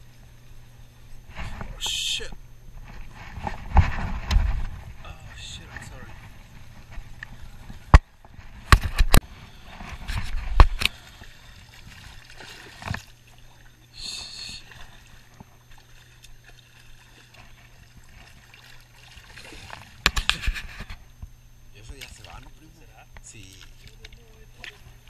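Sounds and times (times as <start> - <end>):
water sloshing and splashing: 0.0 - 25.0.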